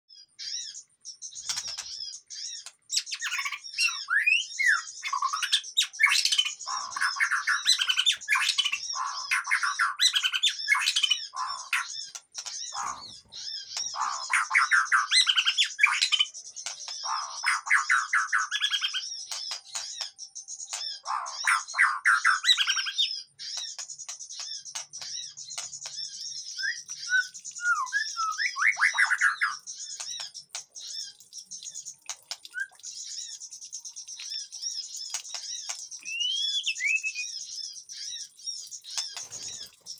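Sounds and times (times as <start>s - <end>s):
birds chattering and whistling: 0.1s - 39.9s.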